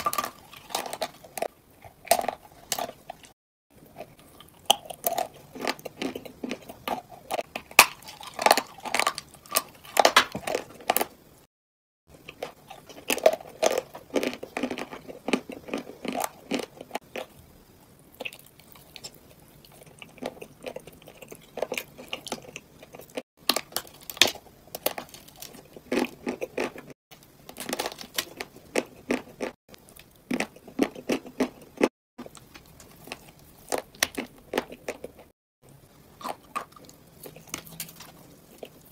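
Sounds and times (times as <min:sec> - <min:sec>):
crunching and chewing: 0:00.0 - 0:11.2, 0:12.1 - 0:17.4, 0:18.1 - 0:35.4, 0:36.2 - 0:38.9.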